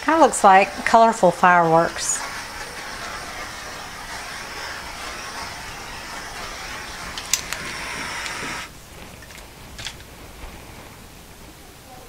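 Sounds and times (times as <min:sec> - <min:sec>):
butane torch hissing: 0:00.0 - 0:11.4.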